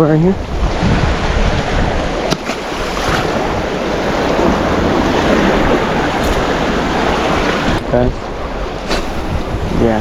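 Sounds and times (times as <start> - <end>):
sea waves washing: 0.0 - 10.0
wind blowing across microphone: 0.0 - 10.0.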